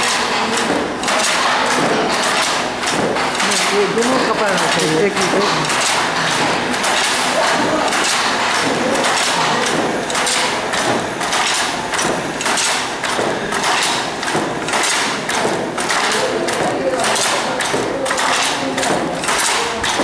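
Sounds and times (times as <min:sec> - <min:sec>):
handloom wooden knocks and clatter: 0:00.0 - 0:20.0.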